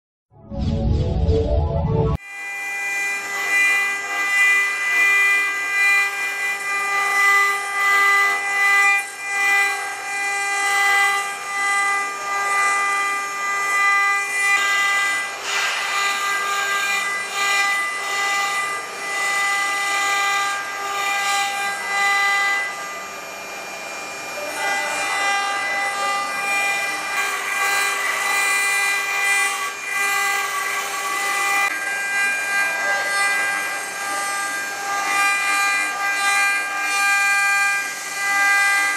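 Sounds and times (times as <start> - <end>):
router spindle whine: 2.1 - 38.9.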